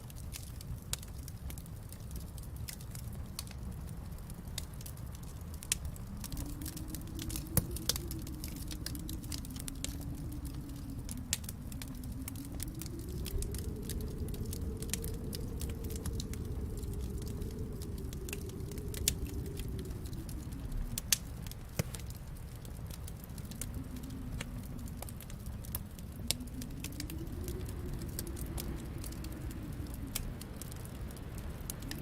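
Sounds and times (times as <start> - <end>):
fire pops and snaps: 0.0 - 32.0
low steady rumble: 0.0 - 32.0
wood fire crackling: 0.0 - 32.0.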